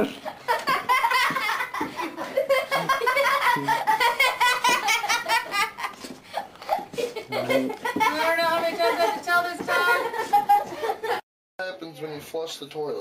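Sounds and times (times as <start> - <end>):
person laughing hard: 0.1 - 11.2.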